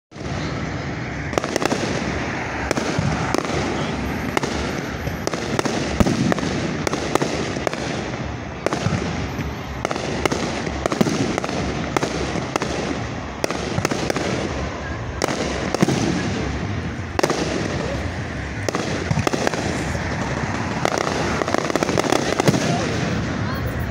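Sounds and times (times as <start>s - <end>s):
fireworks bangs: 0.1s - 23.9s
noisy background: 0.1s - 23.9s.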